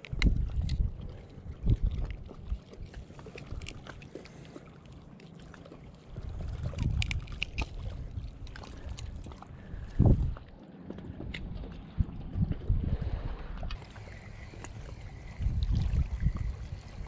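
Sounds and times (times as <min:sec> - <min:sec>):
wind rumbling on microphone: 0:00.0 - 0:04.1, 0:06.0 - 0:17.0.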